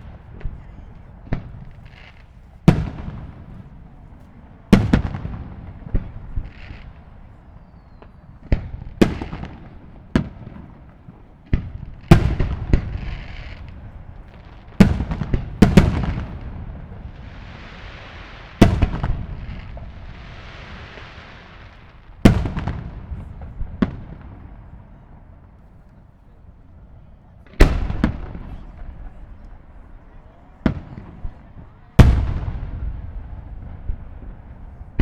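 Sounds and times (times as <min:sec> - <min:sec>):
firework shells booming: 0:00.0 - 0:25.8, 0:27.4 - 0:30.0, 0:30.6 - 0:35.0.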